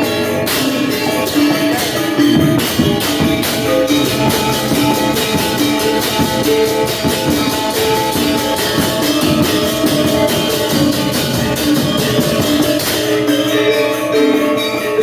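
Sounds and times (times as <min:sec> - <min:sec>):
gamelan gong ensemble playing: 0:00.0 - 0:15.0.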